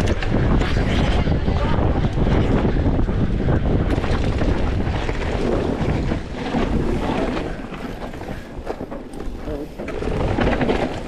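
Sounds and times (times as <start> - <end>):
bike tyres rattling on rough ground: 0.0 - 11.0
wind buffeting microphone: 0.0 - 11.0.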